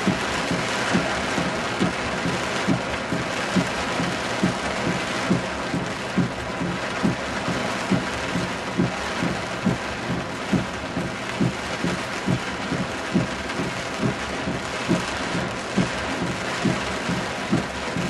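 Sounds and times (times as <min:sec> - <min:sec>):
heavy rain falling: 0:00.0 - 0:18.0
low repeating thump: 0:00.0 - 0:18.0.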